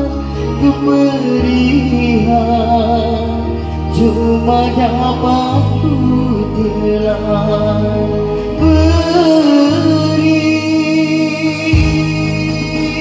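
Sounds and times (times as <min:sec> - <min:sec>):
instrumental backing with bass: 0:00.0 - 0:13.0
person singing: 0:00.0 - 0:13.0.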